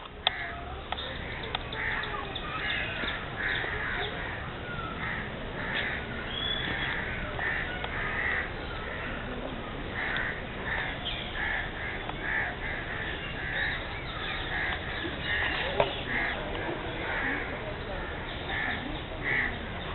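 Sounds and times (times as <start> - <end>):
steady background hiss: 0.0 - 19.9
harsh bird calls: 0.2 - 19.9.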